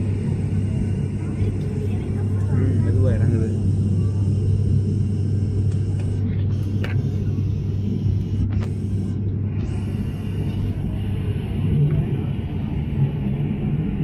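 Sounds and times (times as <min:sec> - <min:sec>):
aircraft engine and airflow rumble: 0:00.0 - 0:14.0
low hum: 0:00.0 - 0:14.0.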